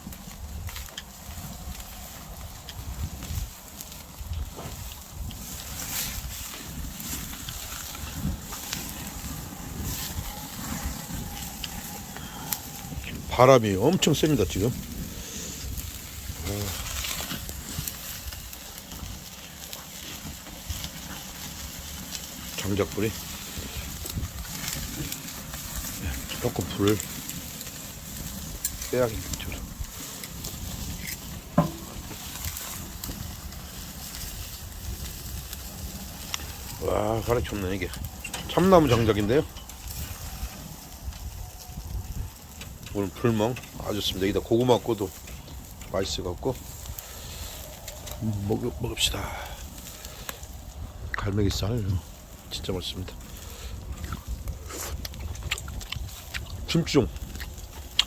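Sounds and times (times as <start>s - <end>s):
campfire pops: 0.0s - 58.0s
wind buffeting microphone: 0.0s - 58.0s
wood fire crackling: 0.0s - 58.0s.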